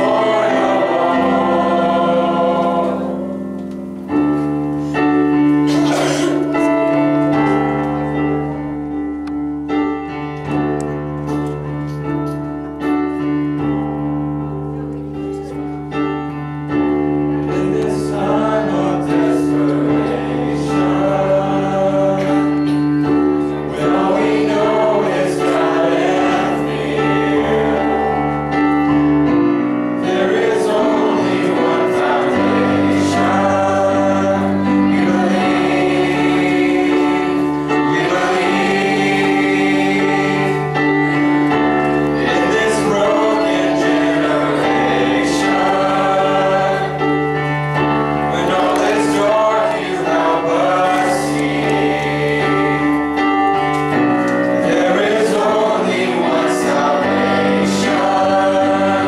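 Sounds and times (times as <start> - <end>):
choir singing gospel: 0.0 - 14.4, 16.0 - 59.0
held keyboard chords: 0.0 - 59.0
piano: 0.0 - 59.0.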